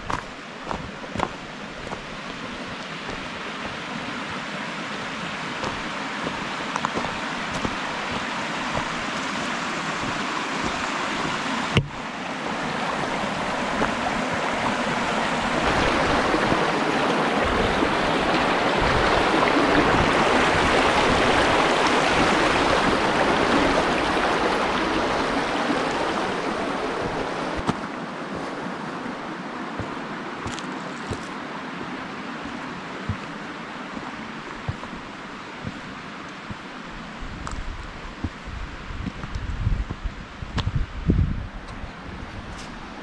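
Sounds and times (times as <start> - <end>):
creek rushing over boulders: 0.0 - 43.0.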